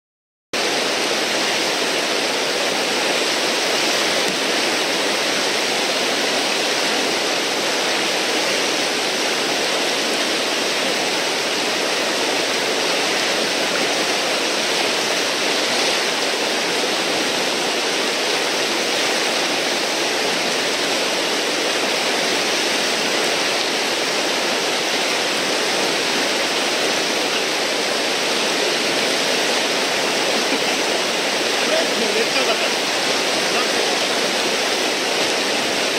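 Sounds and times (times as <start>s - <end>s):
whitewater rushing: 0.6s - 35.9s.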